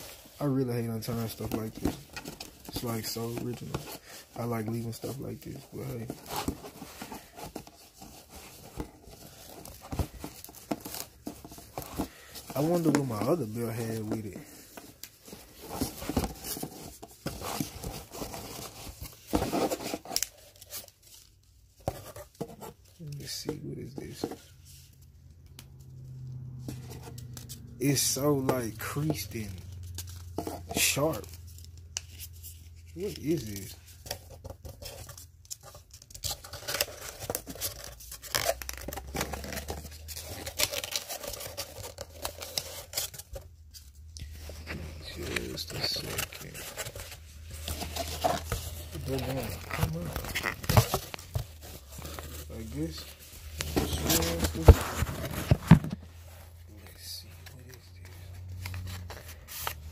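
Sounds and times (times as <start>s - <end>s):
paper and card rustling: 0.0s - 59.9s.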